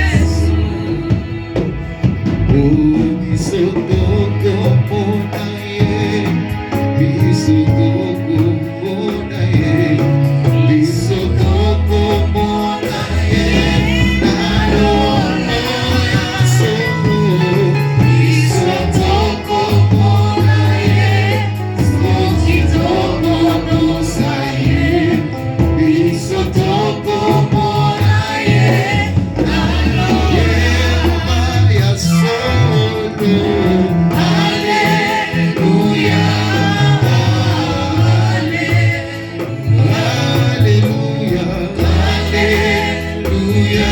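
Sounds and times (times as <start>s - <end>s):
gospel singing over instruments: 0.0s - 43.9s.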